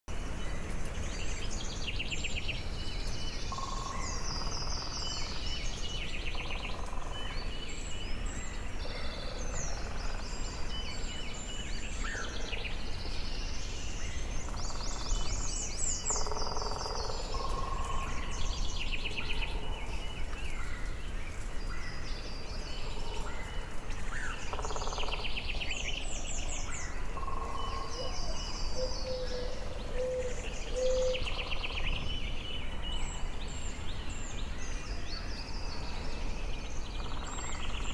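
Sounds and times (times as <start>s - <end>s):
low background noise: 0.1s - 37.9s
songbirds trilling: 0.1s - 37.9s.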